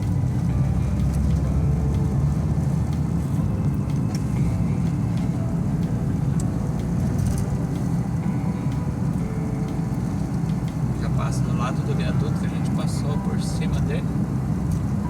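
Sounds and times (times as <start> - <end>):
van road and engine rumble: 0.0 - 15.0.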